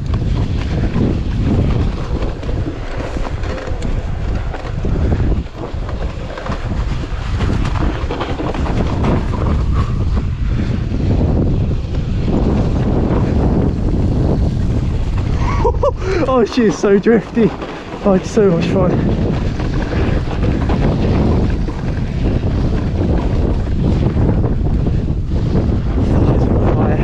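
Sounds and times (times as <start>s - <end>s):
bike rumbling and rattling on snow: 0.0s - 27.0s
wind buffeting microphone: 0.0s - 27.0s.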